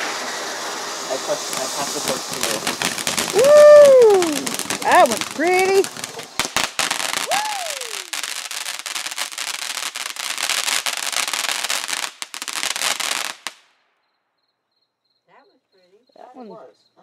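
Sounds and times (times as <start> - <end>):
firework fountain hissing and crackling: 0.0 - 13.7.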